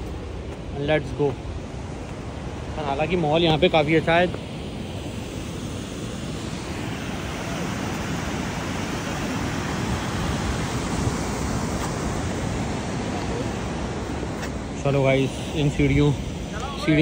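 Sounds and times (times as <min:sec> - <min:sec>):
water rushing over weir: 0:01.0 - 0:17.0.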